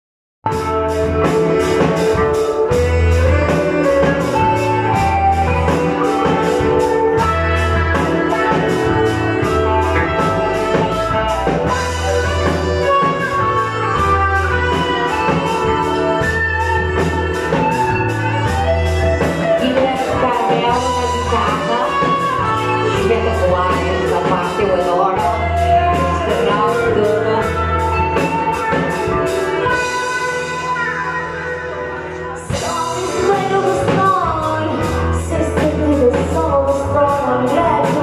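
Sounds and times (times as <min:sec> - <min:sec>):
bass guitar: 0:00.4 - 0:38.0
drum kit: 0:00.4 - 0:38.0
electric guitar: 0:00.4 - 0:38.0.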